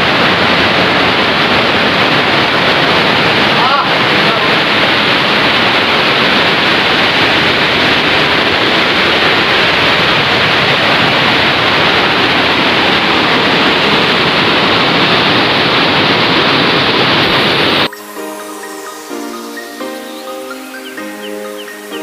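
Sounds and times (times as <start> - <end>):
water rushing over spillway: 0.0 - 22.0.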